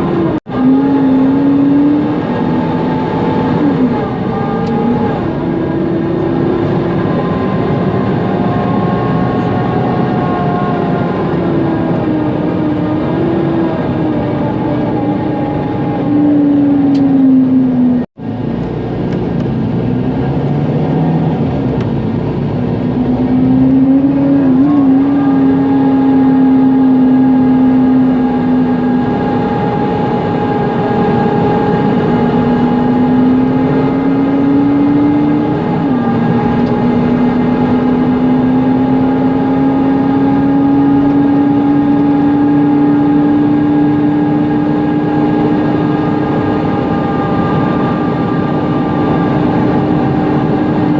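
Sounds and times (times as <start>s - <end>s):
bus engine and gearbox whine: 0.0s - 50.9s
cooling fan rushing: 0.0s - 50.9s.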